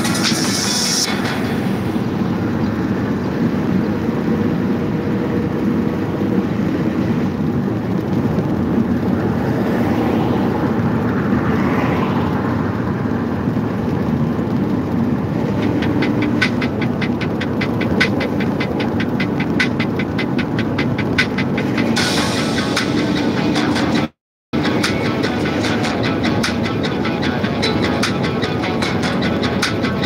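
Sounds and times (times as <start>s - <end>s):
rising whine: 0.0s - 30.0s
vehicle road and engine noise: 0.0s - 30.0s.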